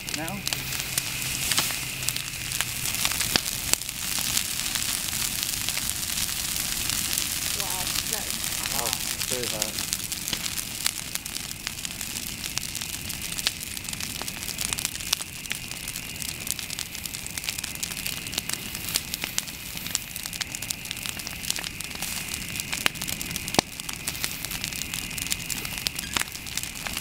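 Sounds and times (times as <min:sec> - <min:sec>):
bonfire pops and crackles: 0:00.0 - 0:27.0
fire hissing: 0:00.0 - 0:27.0.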